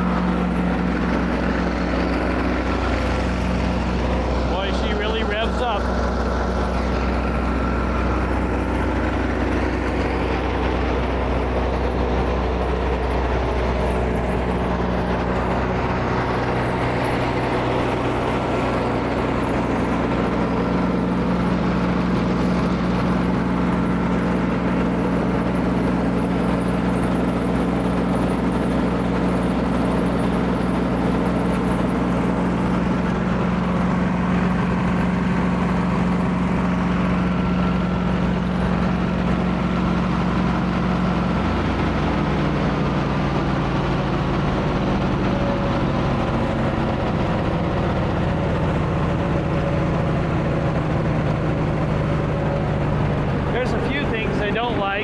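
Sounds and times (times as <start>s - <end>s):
wood chipper engine running: 0.0s - 55.0s.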